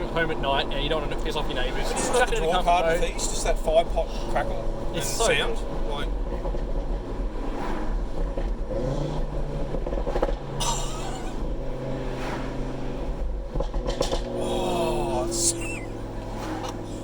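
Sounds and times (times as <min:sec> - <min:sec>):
car engine while driving: 0:00.0 - 0:17.0.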